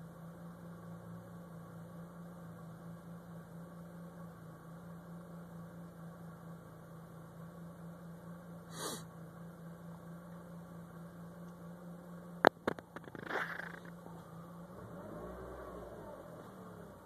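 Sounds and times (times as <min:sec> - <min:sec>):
car engine idling roughly: 0:00.0 - 0:14.6.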